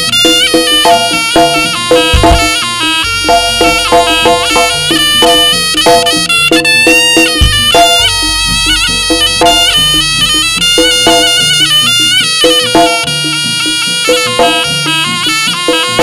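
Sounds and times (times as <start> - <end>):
percussion strokes: 0.0 - 16.0
shrill double-reed melody: 0.0 - 16.0.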